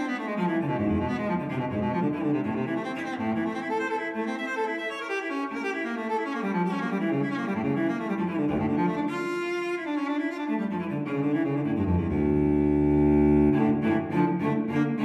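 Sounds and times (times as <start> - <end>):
cello and bowed strings music: 0.0 - 15.0.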